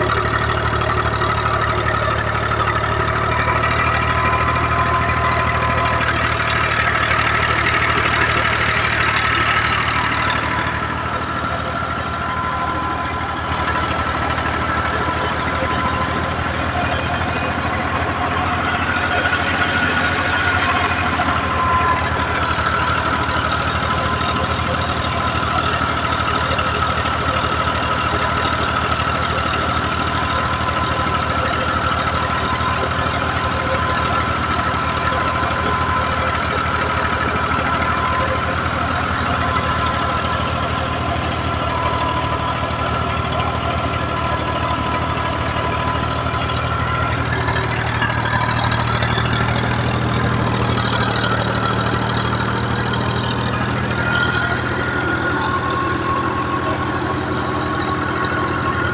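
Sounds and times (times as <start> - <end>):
tractor diesel engine running: 0.0 - 58.9
wavering high-pitched sound: 0.0 - 58.9.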